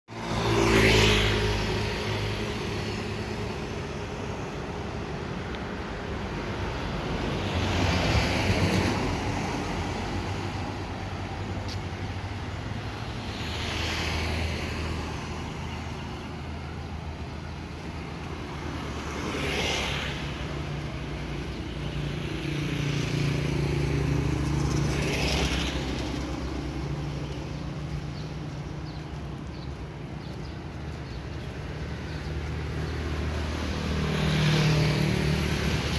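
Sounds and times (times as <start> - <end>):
vehicles passing by: 0.1 - 35.9.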